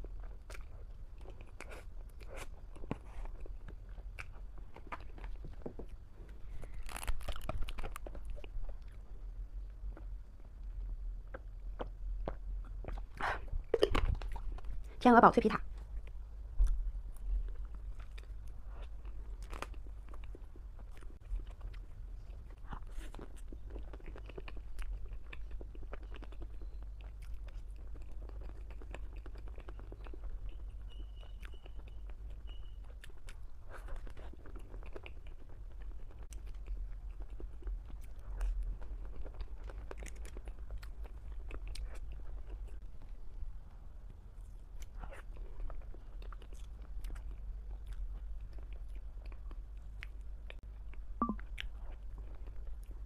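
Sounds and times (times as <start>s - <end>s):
chewing and crunching: 0.0s - 15.0s, 15.7s - 53.0s
low steady hum: 0.0s - 53.0s.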